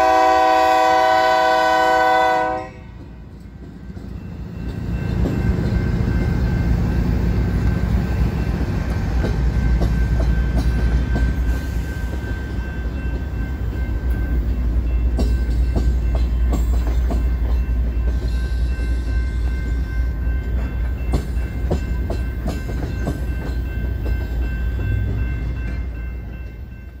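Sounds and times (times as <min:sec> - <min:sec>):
crossing bell ringing: 0:00.0 - 0:27.0
diesel locomotive rumbling: 0:00.0 - 0:27.0.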